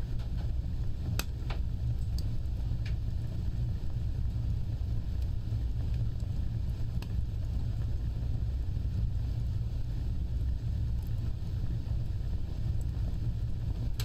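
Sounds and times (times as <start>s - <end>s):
fire crackles: 0.0s - 14.0s
fire roaring: 0.0s - 14.0s.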